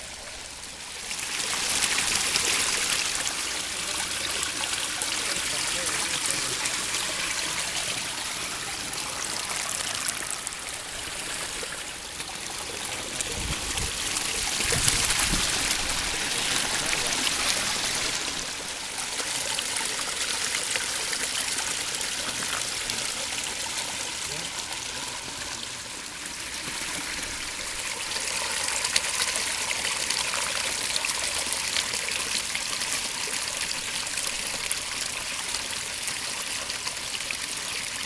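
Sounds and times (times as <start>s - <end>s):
waterfall splashing over rocks: 0.0s - 38.0s.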